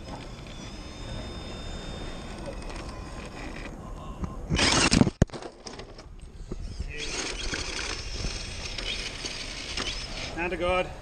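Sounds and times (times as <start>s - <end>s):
toy truck scraping against rock: 0.0s - 3.7s, 4.6s - 10.5s
small electric motor whirring: 0.0s - 3.8s, 4.5s - 5.2s, 5.8s - 10.6s.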